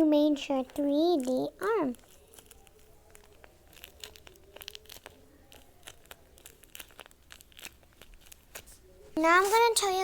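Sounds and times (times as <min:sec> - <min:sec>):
paper and tape crinkling: 0:00.5 - 0:10.0.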